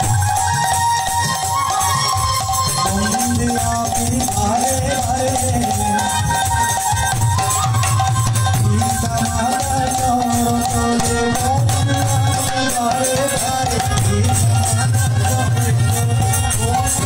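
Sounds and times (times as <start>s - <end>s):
hand-drum beats: 0.0s - 17.0s
wavering melody over loudspeaker: 0.0s - 17.0s.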